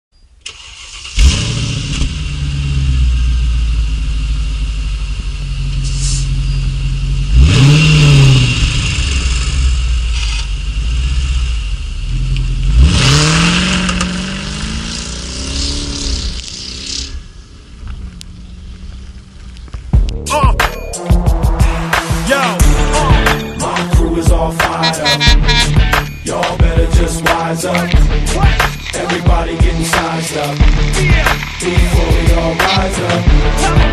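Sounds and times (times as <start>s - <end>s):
car engine starting: 0.3s - 33.9s
car engine idling and revving: 0.4s - 33.9s.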